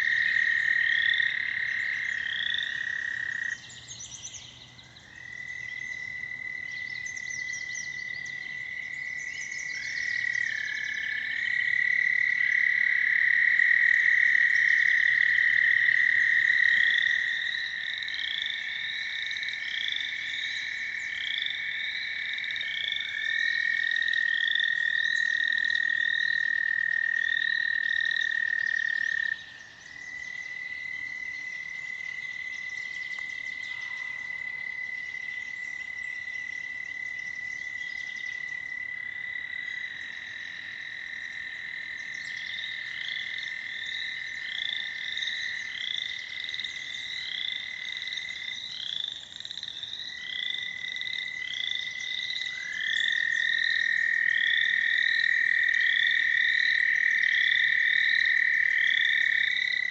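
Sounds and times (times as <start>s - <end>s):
toads trilling: 0.0s - 59.9s.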